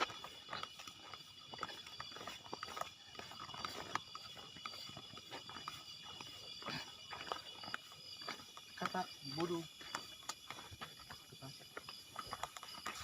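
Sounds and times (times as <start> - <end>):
footsteps on forest litter: 0.0 - 13.0
night insects chorus: 0.0 - 13.0.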